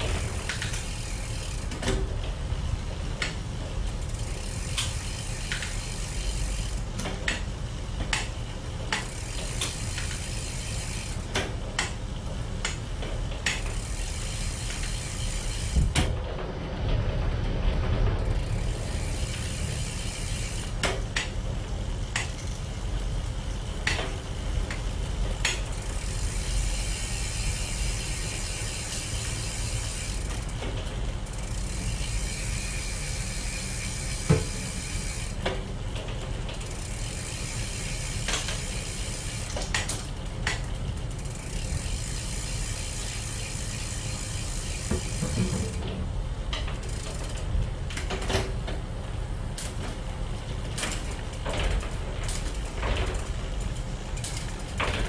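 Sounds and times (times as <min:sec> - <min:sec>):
bicycle freehub ratchet clicking: 0:00.0 - 0:16.4, 0:18.1 - 0:45.8, 0:46.5 - 0:55.0
steady low rumble: 0:00.0 - 0:45.1.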